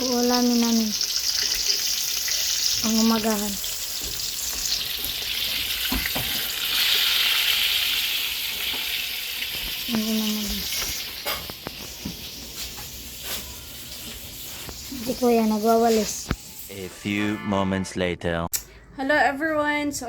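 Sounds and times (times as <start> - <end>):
omelette sizzling in oil: 0.0 - 16.7.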